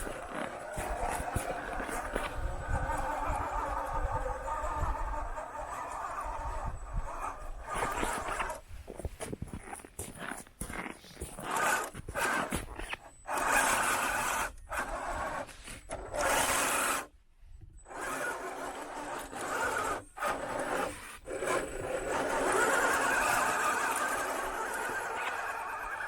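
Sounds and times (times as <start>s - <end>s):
electric toy truck motor whirring: 0.0s - 8.6s, 11.2s - 17.1s, 17.8s - 26.0s.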